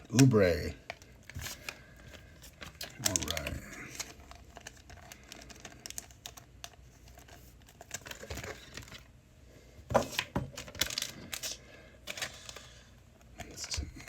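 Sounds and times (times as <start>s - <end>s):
foil wrappers crinkling: 0.1s - 9.1s, 10.0s - 14.0s.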